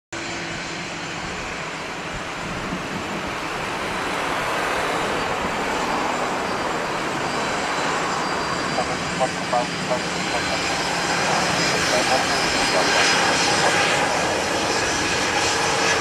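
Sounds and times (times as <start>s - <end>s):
jet engines roaring: 0.2s - 16.0s.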